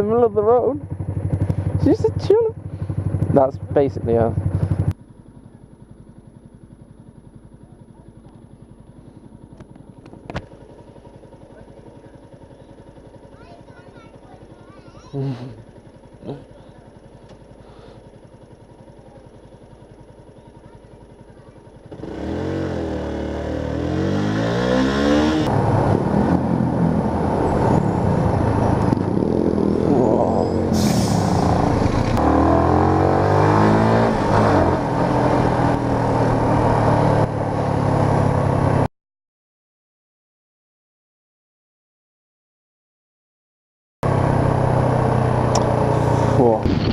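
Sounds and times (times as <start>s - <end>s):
motorcycle engine accelerating: 0.0s - 38.9s, 44.0s - 46.9s.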